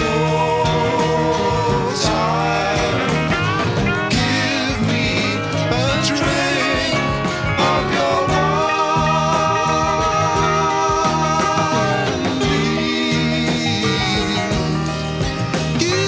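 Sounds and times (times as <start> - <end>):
rock band instrumental: 0.0 - 16.0.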